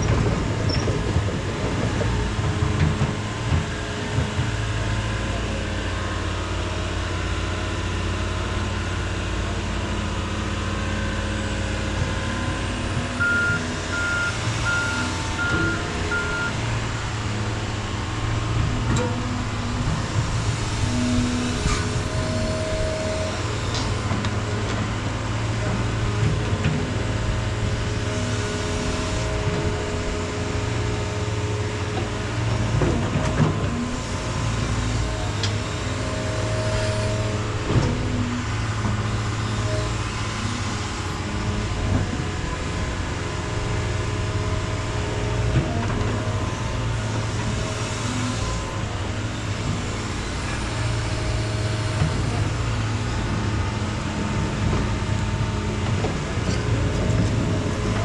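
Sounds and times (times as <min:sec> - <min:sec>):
heavy equipment engine running: 0:00.0 - 0:58.0.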